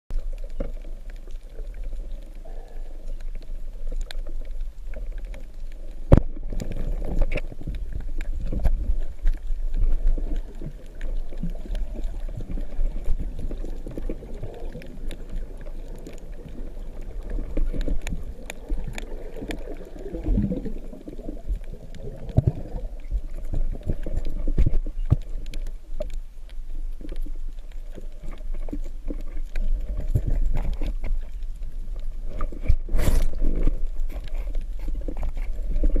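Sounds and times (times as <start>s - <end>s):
muffled underwater rumble: 0.1s - 36.0s
water rush: 0.2s - 36.0s.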